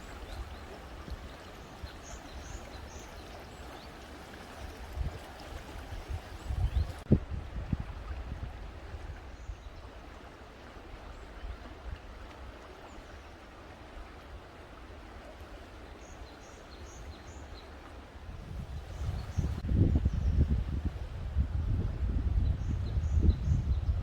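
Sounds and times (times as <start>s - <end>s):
stream running: 0.0s - 23.8s.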